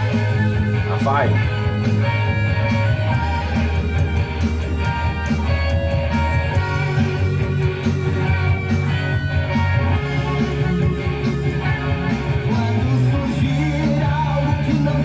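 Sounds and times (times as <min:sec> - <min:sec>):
hard rock song: 0:00.0 - 0:15.0.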